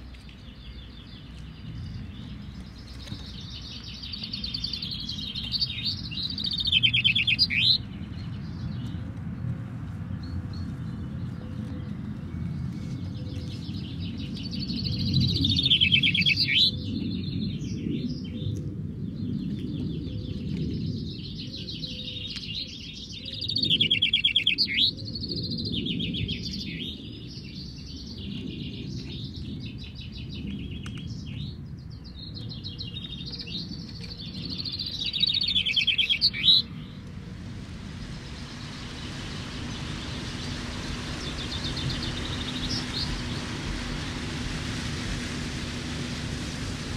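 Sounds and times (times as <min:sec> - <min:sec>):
chaffinches singing: 0:00.0 - 0:46.9
steady low rumble: 0:00.0 - 0:46.9.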